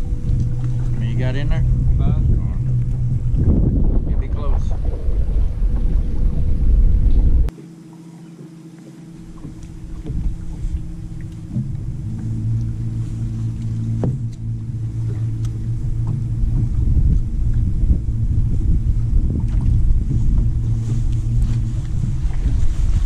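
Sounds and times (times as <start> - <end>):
wind rumbling on microphone: 0.0 - 7.6, 8.9 - 23.0
trolling motor hum: 0.0 - 23.0.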